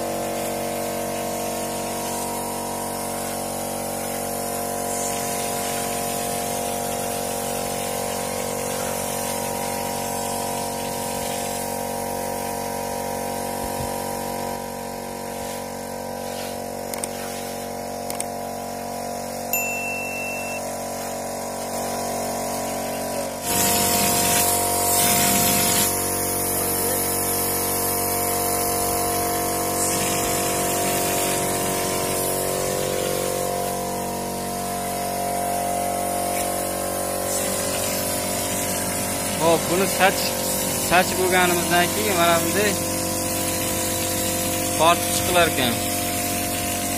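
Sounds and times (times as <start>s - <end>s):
air compressor humming: 0.0s - 46.9s
spray gun air hissing: 0.0s - 46.9s.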